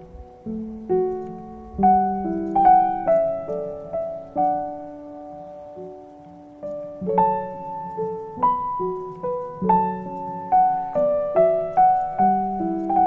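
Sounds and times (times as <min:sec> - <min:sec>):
gentle piano piece: 0:00.0 - 0:13.0.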